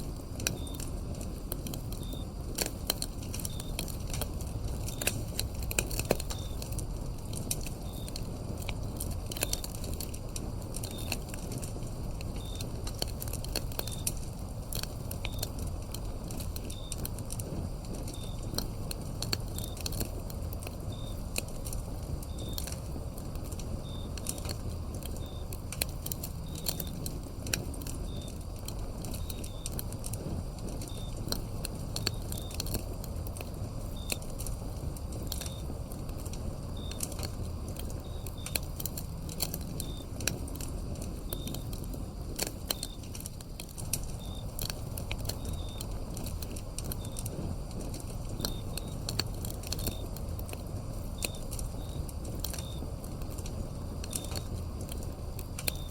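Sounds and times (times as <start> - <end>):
crickets chirping: 0.0 - 55.9
wood fire crackling and popping: 0.0 - 55.9.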